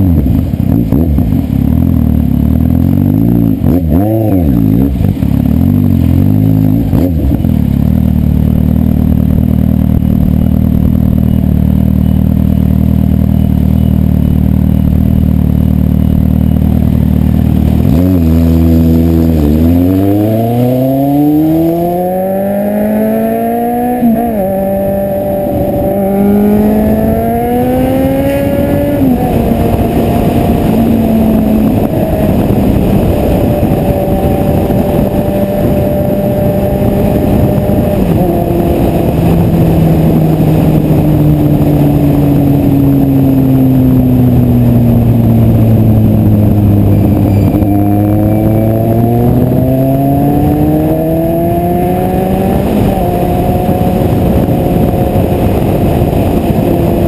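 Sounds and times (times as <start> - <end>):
motorcycle engine revving and idling: 0.0 - 57.0.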